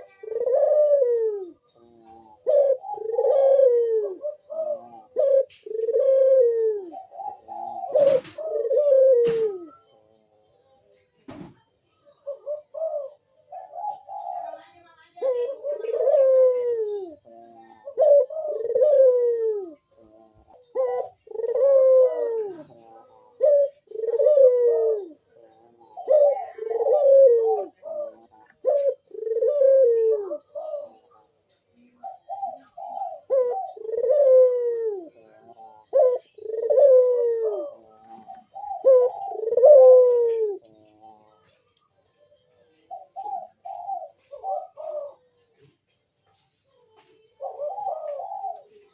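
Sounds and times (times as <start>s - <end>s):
dove cooing: 0.0s - 10.1s, 12.0s - 45.8s, 47.0s - 48.9s.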